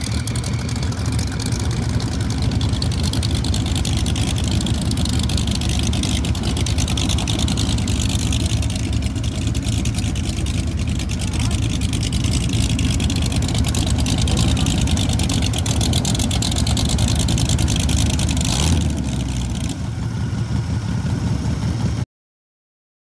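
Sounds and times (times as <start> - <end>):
motorcycle engines idling: 0.0 - 22.0.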